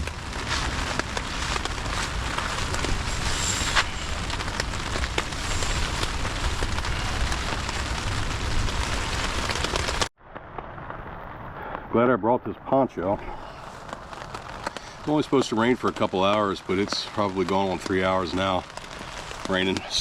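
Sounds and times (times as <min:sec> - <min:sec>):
raindrops ticking on a surface: 0:00.0 - 0:20.0
steady rain: 0:00.0 - 0:20.0.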